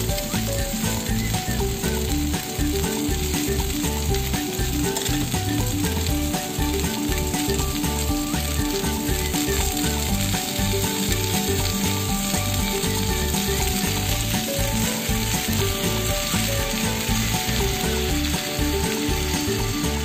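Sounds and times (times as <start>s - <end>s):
background music: 0.0s - 20.0s
chicken sizzling in a pan: 0.0s - 20.0s.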